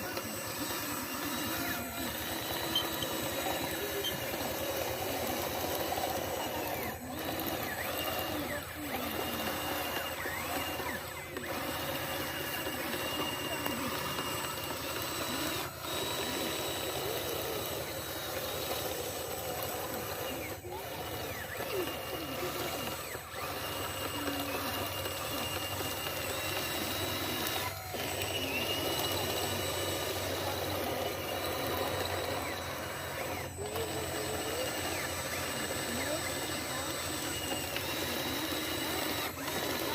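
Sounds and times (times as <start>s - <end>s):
busy background noise: 0.0s - 39.9s
small electric motors whining: 0.0s - 39.9s.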